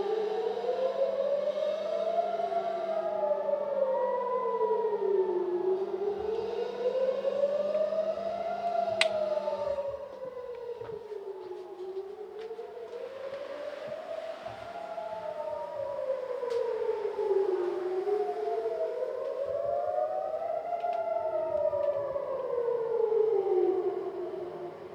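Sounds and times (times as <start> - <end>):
air-raid sirens wailing: 0.0 - 24.9.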